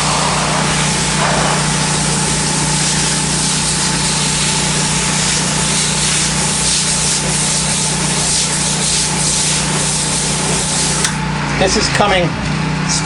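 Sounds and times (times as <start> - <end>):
pressure washer spraying tile: 0.0 - 11.2.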